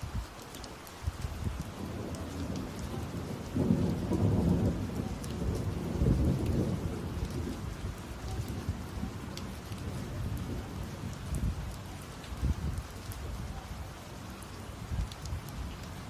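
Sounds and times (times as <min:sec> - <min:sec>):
rain drops hitting: 0:00.0 - 0:16.0
steady rain: 0:00.0 - 0:16.0
thunder rumbling: 0:01.1 - 0:16.0.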